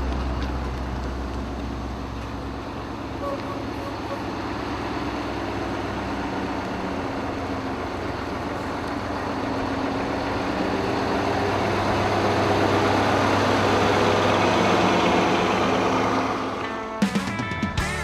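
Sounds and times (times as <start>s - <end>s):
heavy truck engine running: 0.0s - 18.0s.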